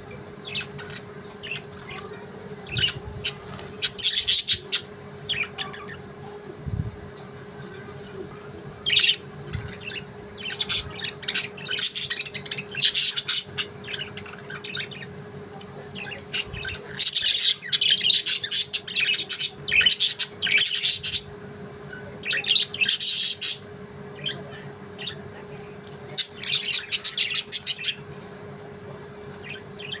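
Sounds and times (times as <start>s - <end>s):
faint steady hum: 0.0s - 30.0s
budgerigars chirping and squawking: 0.1s - 6.1s, 7.6s - 25.3s, 26.1s - 28.3s, 29.3s - 30.0s.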